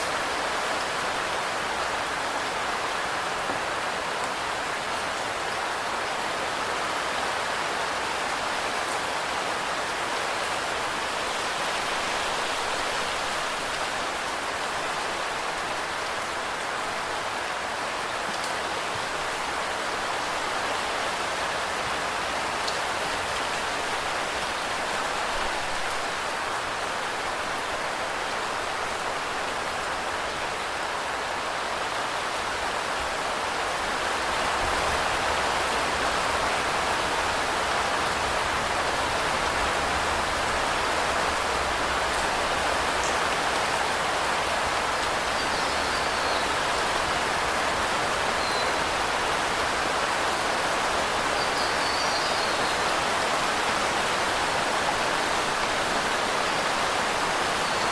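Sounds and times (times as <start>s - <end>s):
steady rain pattering: 0.0s - 57.9s.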